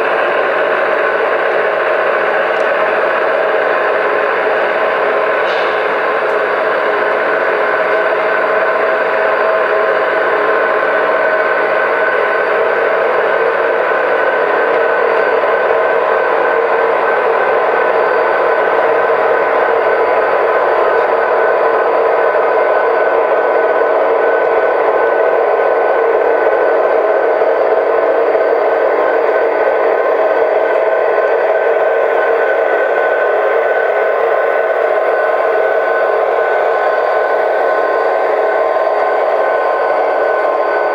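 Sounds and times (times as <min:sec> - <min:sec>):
tinny diesel engine drone: 0:00.0 - 0:40.9.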